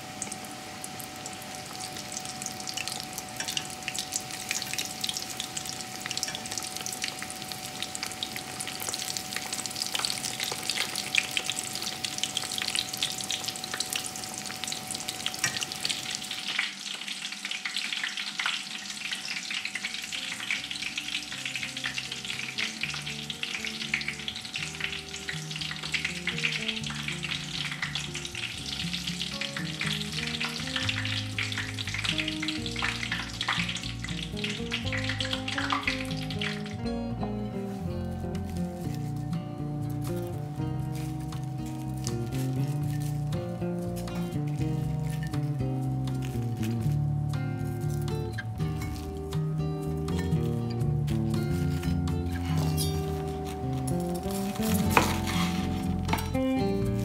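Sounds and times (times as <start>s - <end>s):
food deep-frying in hot oil: 0.0s - 57.0s
soft background music: 0.8s - 15.9s, 19.0s - 57.0s.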